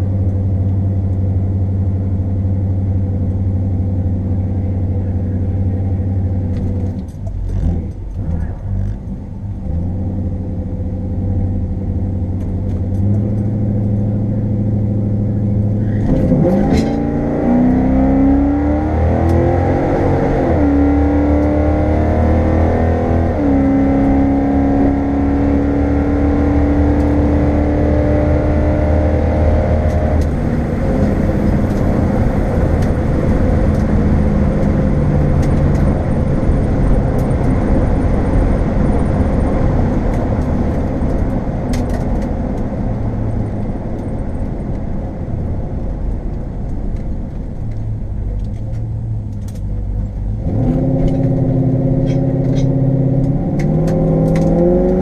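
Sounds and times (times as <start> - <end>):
car engine revving and accelerating: 0.0 - 55.0.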